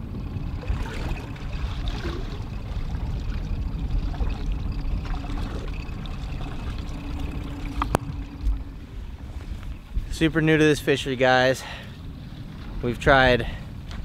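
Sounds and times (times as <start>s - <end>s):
steady low rumble: 0.0s - 14.0s
water sloshing against hull: 0.0s - 14.0s.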